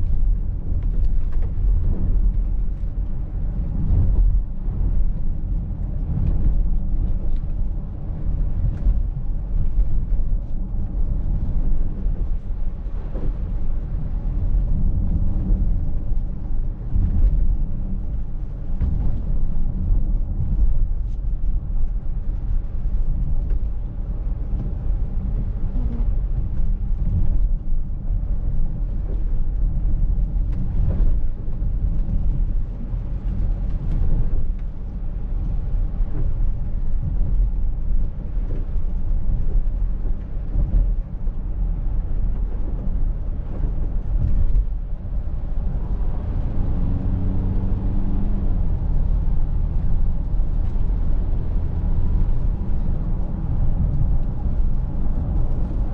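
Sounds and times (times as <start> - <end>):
road and tyre rumble: 0.0 - 55.9
wind noise: 0.0 - 55.9.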